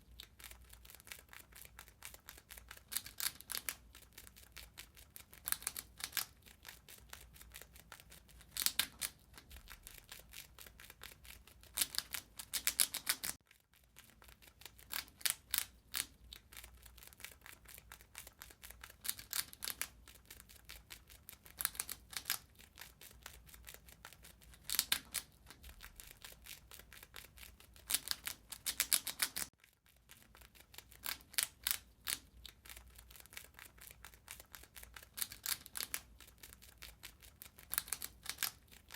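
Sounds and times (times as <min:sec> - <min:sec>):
rat gnawing: 0:00.0 - 0:38.9.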